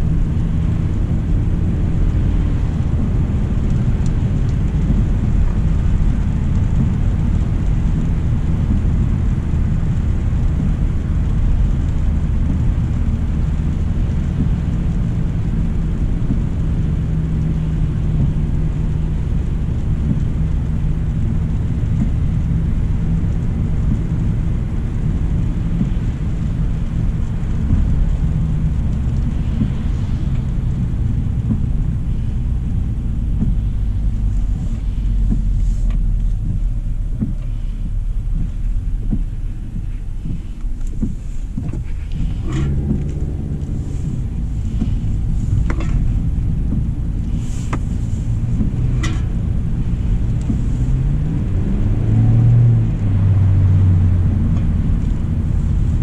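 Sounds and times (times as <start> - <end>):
tyres on wet road: 0.0 - 56.0.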